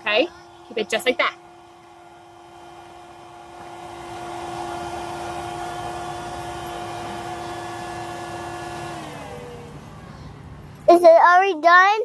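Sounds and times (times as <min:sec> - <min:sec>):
electric air pump running: 0:00.0 - 0:11.0.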